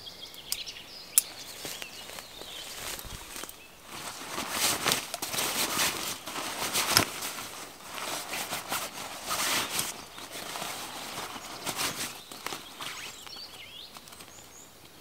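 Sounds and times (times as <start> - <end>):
fabric rustling and crinkling: 1.4 - 14.6.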